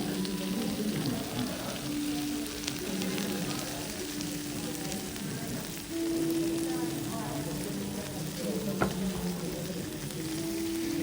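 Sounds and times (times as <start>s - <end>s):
sauce sizzling on hot plate: 0.0s - 11.0s.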